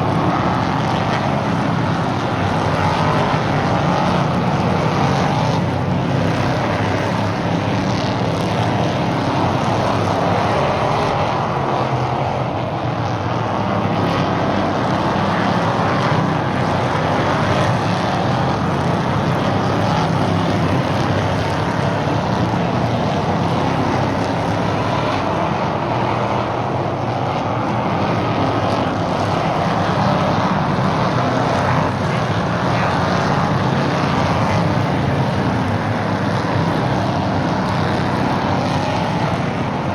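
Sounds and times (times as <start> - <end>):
stock car engines racing: 0.0 - 39.9.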